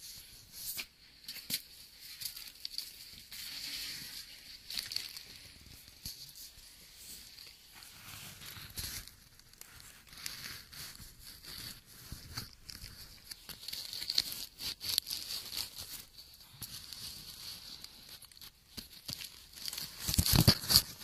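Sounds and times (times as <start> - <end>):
leaves and twigs rustling: 1.3 - 6.6, 8.2 - 21.0.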